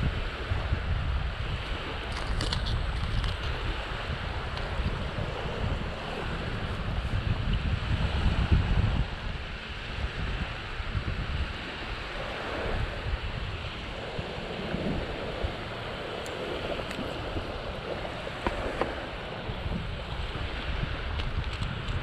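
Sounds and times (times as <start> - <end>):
small waves washing onto sand: 0.0 - 22.0
wind buffeting microphone: 0.0 - 22.0.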